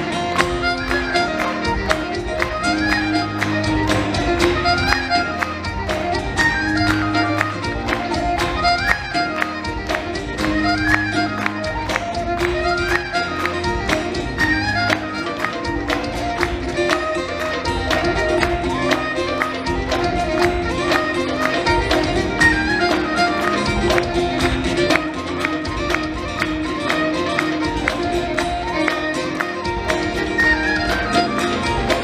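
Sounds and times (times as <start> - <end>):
drum kit beat: 0.0 - 32.0
fiddle playing fast melody: 0.0 - 32.0.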